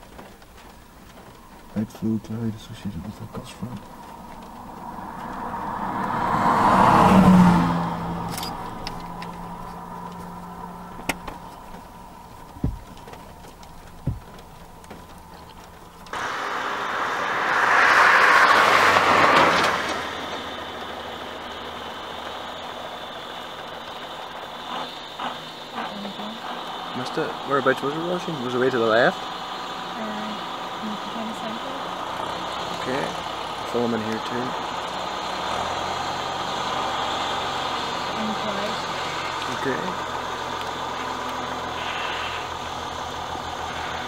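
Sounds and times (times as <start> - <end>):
cars passing by: 0.0 - 44.0.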